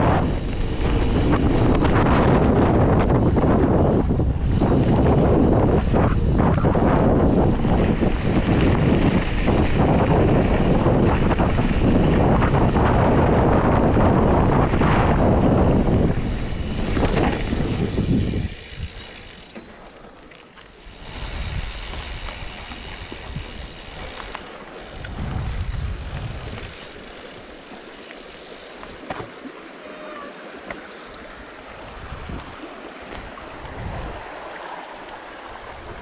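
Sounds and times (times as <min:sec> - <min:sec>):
wind buffeting microphone: 0:00.0 - 0:19.4, 0:20.8 - 0:27.4, 0:31.2 - 0:36.0
rushing stream: 0:00.0 - 0:36.0.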